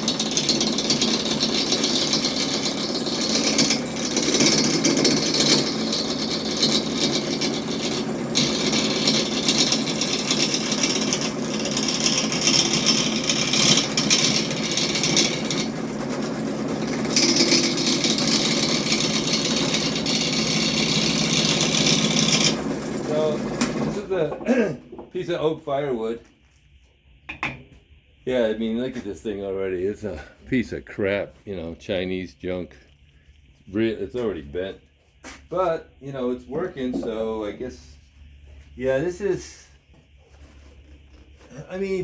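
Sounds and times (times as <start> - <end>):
lathe motor running: 0.0 - 26.0, 28.3 - 42.0.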